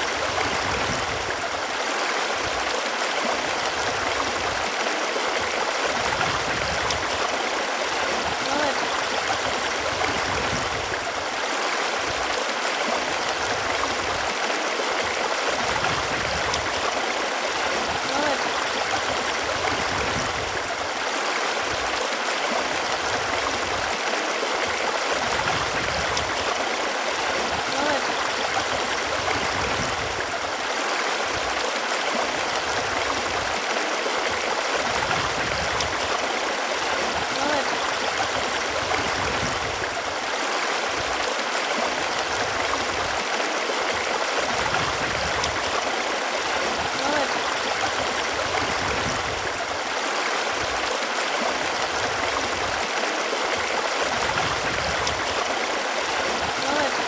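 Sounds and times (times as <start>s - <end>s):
running water babbling: 0.0s - 57.0s.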